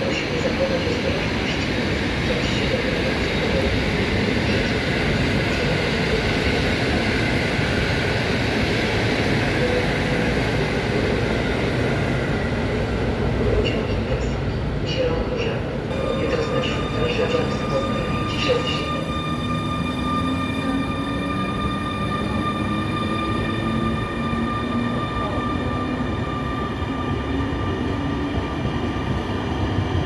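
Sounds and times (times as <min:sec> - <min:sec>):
train rumbling along track: 0:00.0 - 0:30.0.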